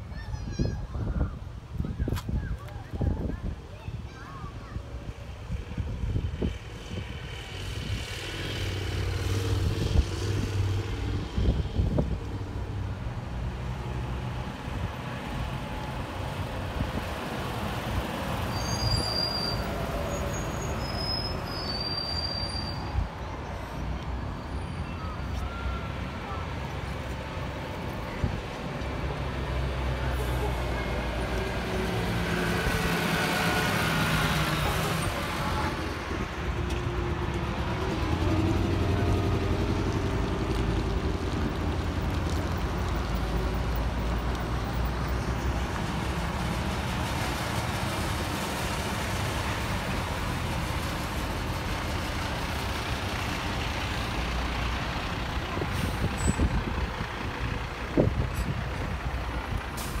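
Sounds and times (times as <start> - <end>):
fire truck engines rumbling past: 2.9 - 60.0.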